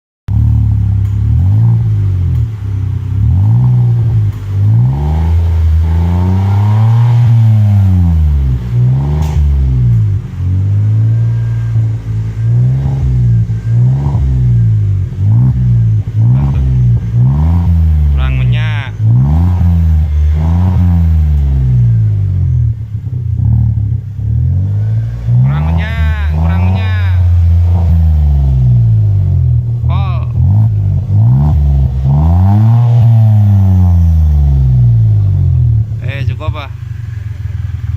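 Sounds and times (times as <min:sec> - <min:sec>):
car engine revving: 0:00.3 - 0:37.9.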